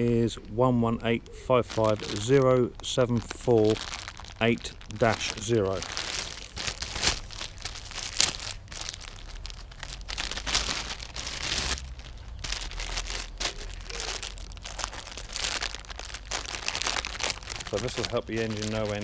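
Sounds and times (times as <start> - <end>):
plastic bag crinkling and tearing: 1.6 - 19.0.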